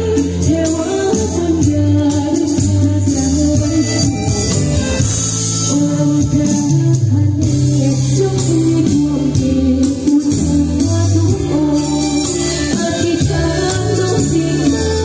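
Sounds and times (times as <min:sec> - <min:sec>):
loud amplified backing music: 0:00.0 - 0:15.0
woman singing into a microphone: 0:00.0 - 0:15.0.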